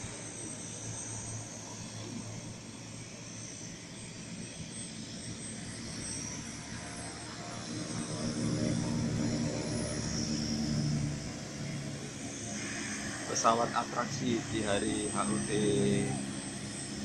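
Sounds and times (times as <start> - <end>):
aircraft engines droning overhead: 0.0 - 17.0.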